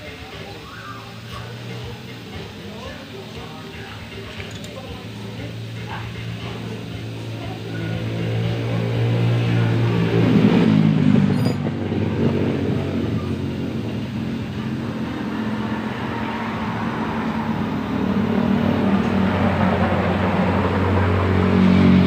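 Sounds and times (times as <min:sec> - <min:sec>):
motorcycle engine idling: 0:01.3 - 0:21.6.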